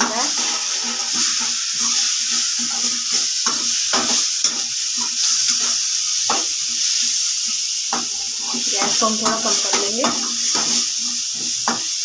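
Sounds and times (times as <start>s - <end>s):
metal spatula scraping and stirring: 0.0s - 12.0s
vegetables sizzling in hot oil: 0.0s - 12.0s.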